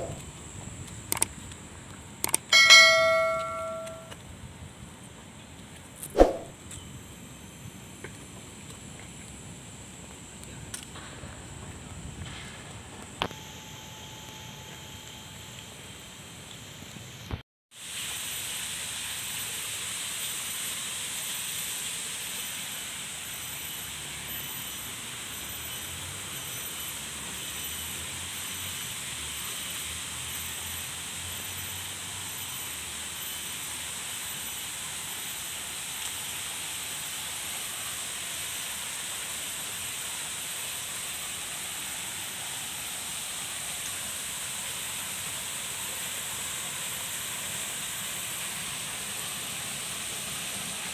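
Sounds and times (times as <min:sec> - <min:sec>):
high-pitched hiss: 0:00.0 - 0:01.4, 0:02.2 - 0:04.2, 0:06.2 - 0:50.9.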